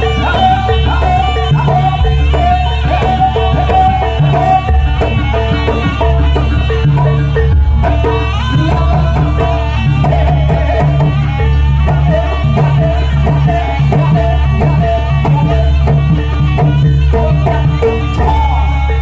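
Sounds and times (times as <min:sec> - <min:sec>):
hand drums beating: 0:00.0 - 0:19.0
melody over strong bass: 0:00.0 - 0:19.0.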